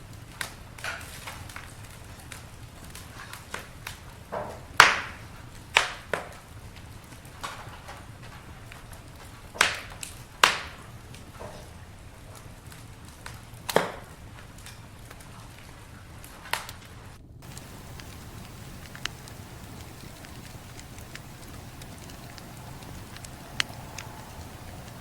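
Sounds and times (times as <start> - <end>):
low rumble of fire: 0.0 - 25.0
wood fire popping and snapping: 0.0 - 25.0.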